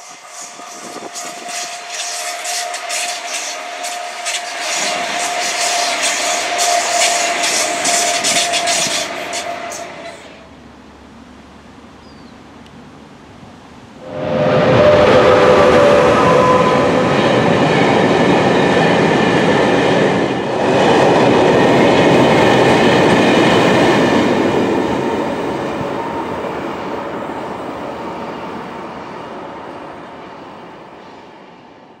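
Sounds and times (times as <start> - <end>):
freight train wagons rolling on rails: 0.0 - 10.7, 14.0 - 31.0.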